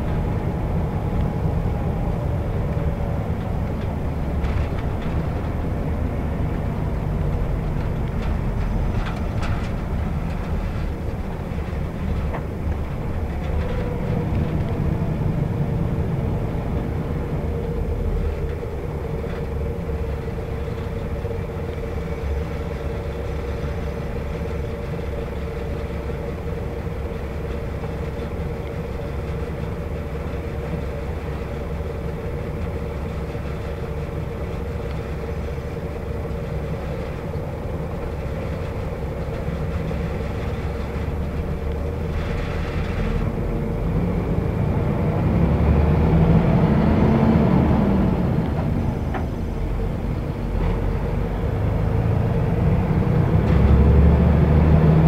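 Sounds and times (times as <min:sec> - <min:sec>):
bus engine drone: 0:00.0 - 0:55.0
road noise: 0:00.0 - 0:55.0.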